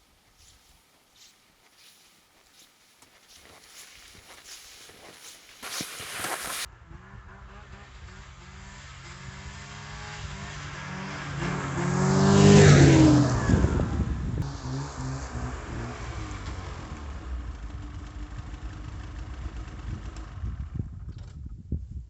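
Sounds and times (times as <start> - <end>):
snowmobile engine: 0.0 - 20.8.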